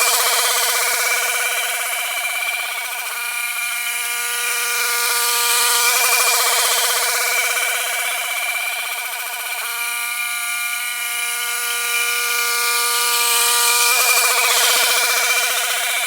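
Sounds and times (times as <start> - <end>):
brush cutter engine running: 0.0 - 16.0.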